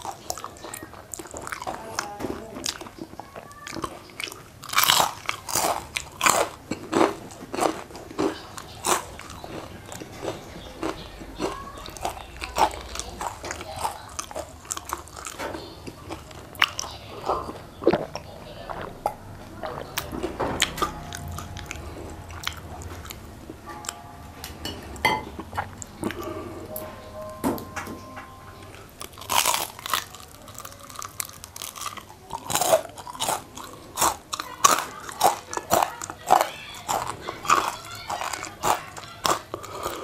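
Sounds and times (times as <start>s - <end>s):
crunching fried chicken: 0.0s - 24.0s, 28.9s - 40.0s.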